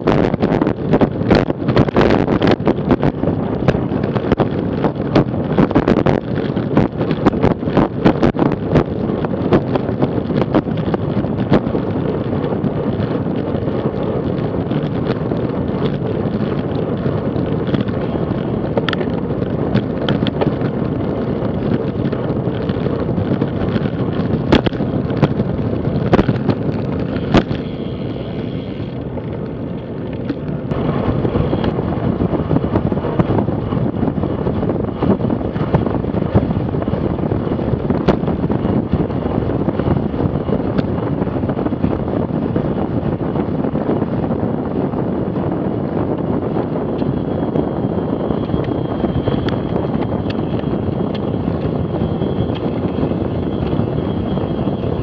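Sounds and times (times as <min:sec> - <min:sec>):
road and tyre noise: 0:00.0 - 0:55.0
wind on microphone: 0:00.0 - 0:55.0.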